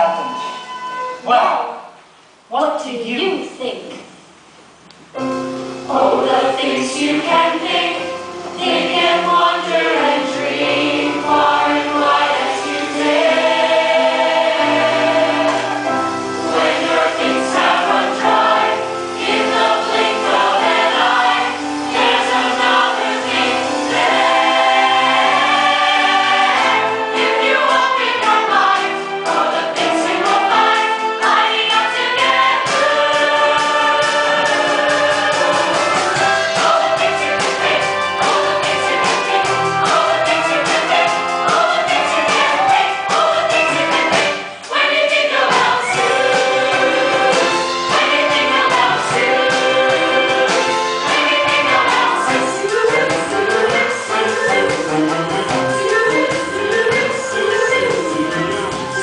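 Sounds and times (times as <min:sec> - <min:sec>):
chorus singing with accompaniment: 0:05.2 - 0:59.0.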